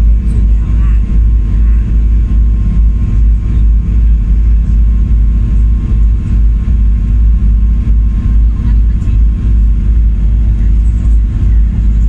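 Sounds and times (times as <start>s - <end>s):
ferry engine rumbling: 0.0s - 12.0s.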